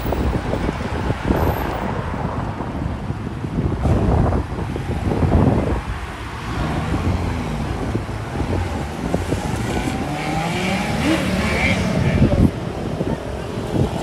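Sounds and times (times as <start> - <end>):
cars and motorcycles passing: 0.0 - 14.0
wind buffeting microphone: 0.0 - 14.0.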